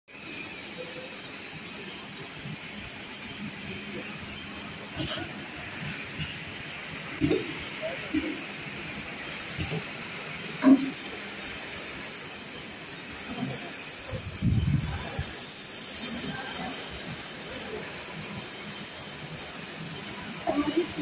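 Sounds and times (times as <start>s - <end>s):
mechanical hiss: 0.1s - 21.0s.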